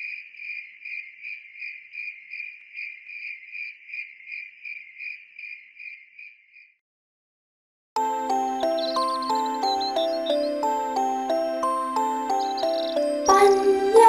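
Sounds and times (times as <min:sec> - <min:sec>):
crickets chirping: 0:00.0 - 0:06.8, 0:08.0 - 0:13.9.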